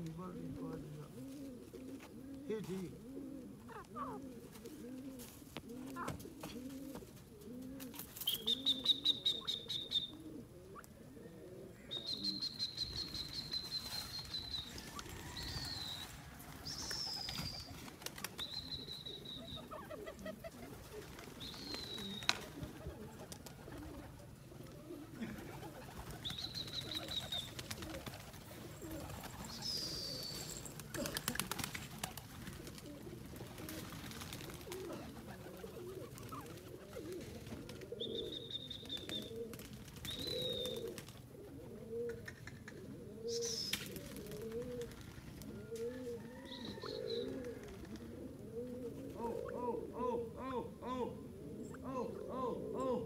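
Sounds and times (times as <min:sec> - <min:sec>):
bird cooing: 0:00.2 - 0:53.0.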